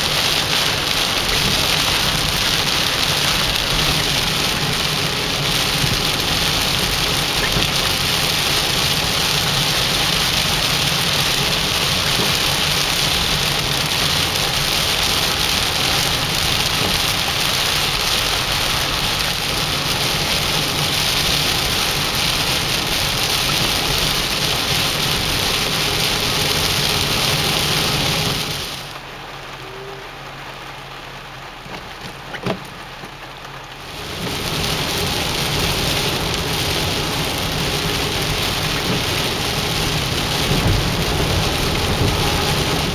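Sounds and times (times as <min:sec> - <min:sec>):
heavy rain hissing: 0:00.0 - 0:30.8, 0:33.8 - 0:42.9
low steady rumble: 0:00.0 - 0:42.9.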